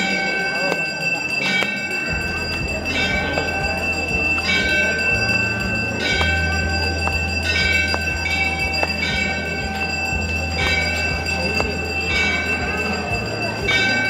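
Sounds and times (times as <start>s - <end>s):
temple bell ringing: 0.0s - 14.0s.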